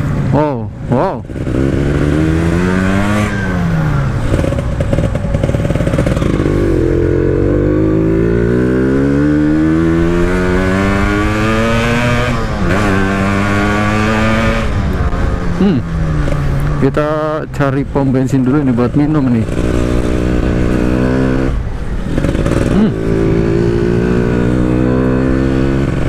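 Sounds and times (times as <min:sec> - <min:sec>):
motorcycle engine accelerating: 0:00.9 - 0:26.0.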